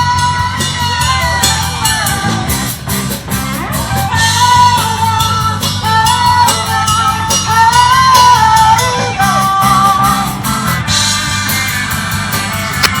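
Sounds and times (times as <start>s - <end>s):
person singing long line: 0.0s - 11.2s
live rock band playing: 0.0s - 13.0s.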